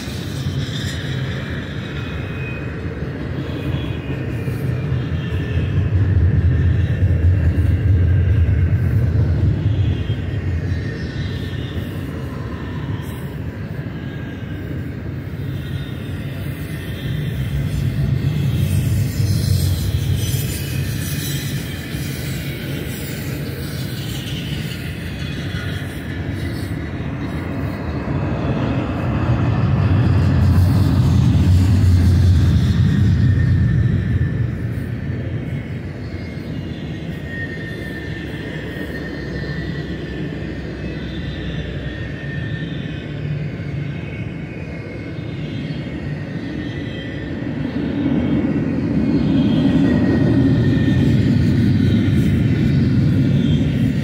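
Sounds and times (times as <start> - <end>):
faint high whine: 0.0 - 54.0
rumble of steel wheels on rail: 0.0 - 54.0.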